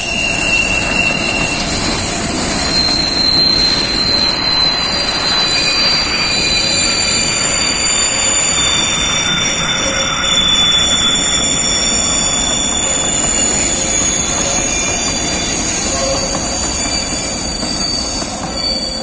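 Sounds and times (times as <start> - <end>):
rumble of wheels on track: 0.0 - 19.0
wheel flanges squealing on rail: 0.0 - 19.0.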